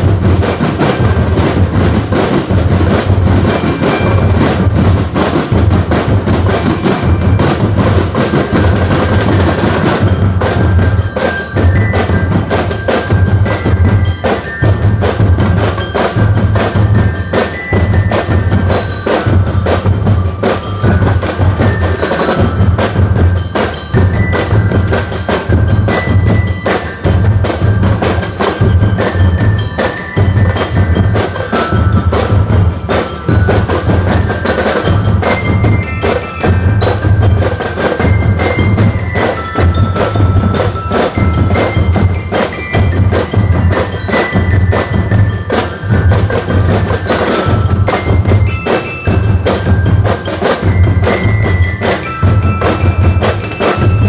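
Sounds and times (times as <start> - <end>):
bell lyres melody: 0.0 - 54.0
snare drum strokes: 0.0 - 54.0.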